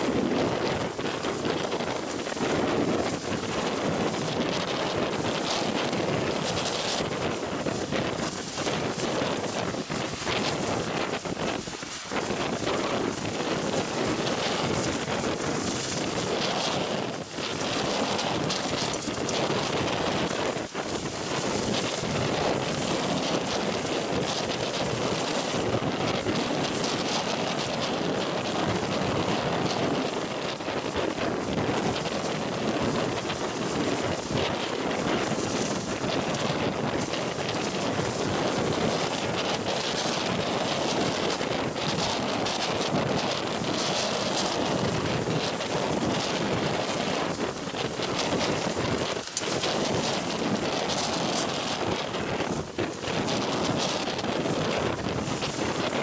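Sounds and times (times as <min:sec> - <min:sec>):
heavy surf breaking: 0:00.0 - 0:56.0
wind buffeting microphone: 0:00.0 - 0:56.0.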